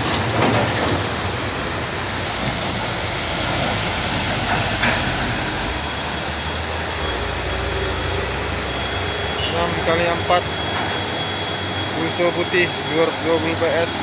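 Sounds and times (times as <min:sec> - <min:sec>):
diesel truck engine rumble: 0:00.0 - 0:14.0.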